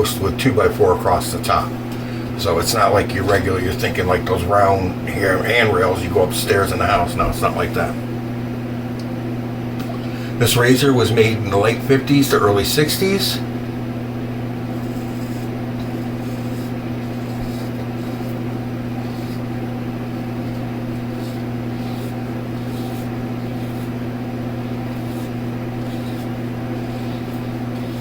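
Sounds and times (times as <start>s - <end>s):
fan motor humming: 0.0s - 28.0s.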